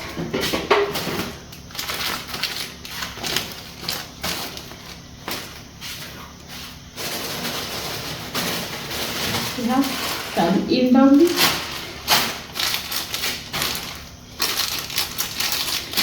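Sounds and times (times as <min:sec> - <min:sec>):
plastic packaging crinkling: 0:01.3 - 0:05.8, 0:06.4 - 0:16.0.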